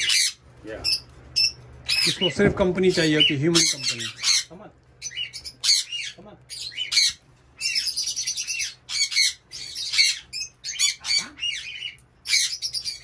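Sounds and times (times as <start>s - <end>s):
parrots squawking and chirping: 0.0s - 13.0s.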